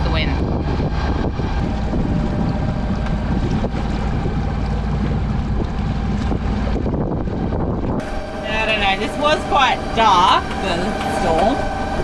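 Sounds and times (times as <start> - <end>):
steady low rumble: 0.0 - 12.0
water rushing along hull: 0.0 - 12.0
wind buffeting microphone: 0.0 - 12.0.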